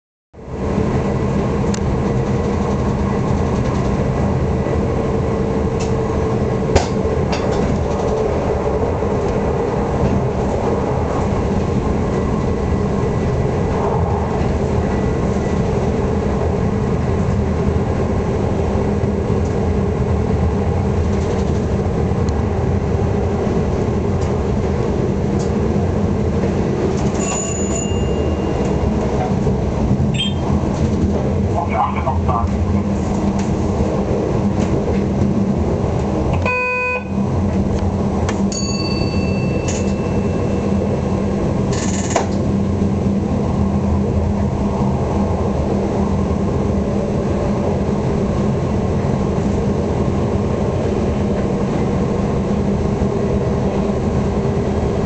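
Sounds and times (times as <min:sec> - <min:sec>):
train wheels on rails: 0:00.5 - 0:36.5, 0:37.2 - 0:55.0.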